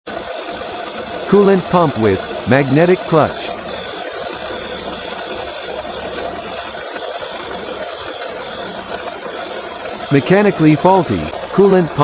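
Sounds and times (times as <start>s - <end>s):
car engine running: 0.2s - 12.0s
pump bearing rubbing: 0.2s - 12.0s.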